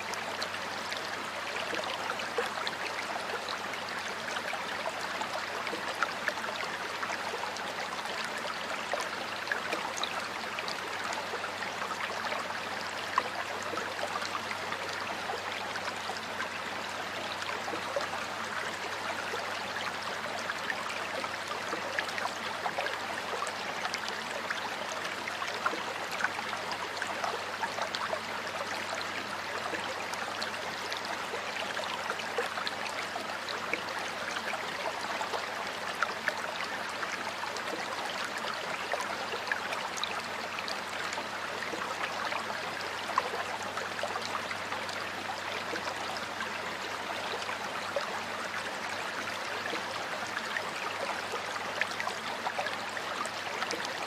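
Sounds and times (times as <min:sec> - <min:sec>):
stream water rushing: 0:00.0 - 0:54.0
water splashes and drips: 0:00.0 - 0:54.0.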